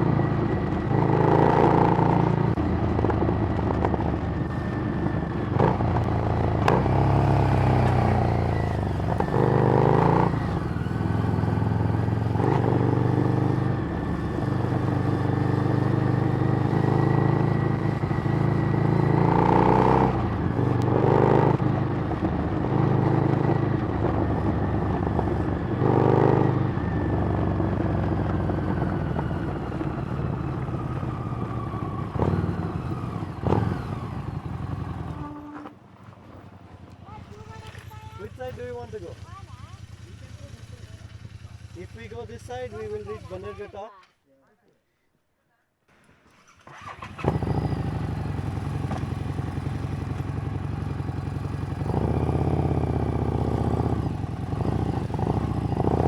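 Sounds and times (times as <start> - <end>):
motorcycle engine revving: 0.0 - 43.7, 46.3 - 56.0.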